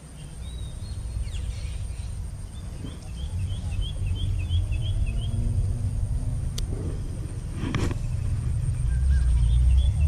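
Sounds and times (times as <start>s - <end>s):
bird chirping: 0.0s - 10.0s
low rumble: 0.5s - 10.0s.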